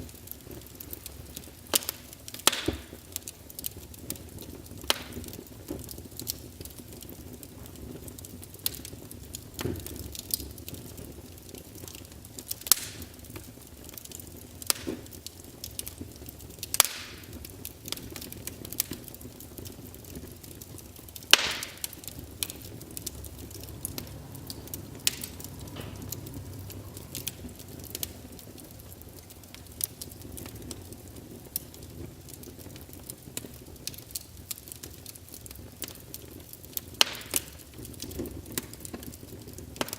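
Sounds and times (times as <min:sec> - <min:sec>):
burning logs popping and snapping: 0:00.0 - 0:39.9
low rumble of flame: 0:00.0 - 0:39.9.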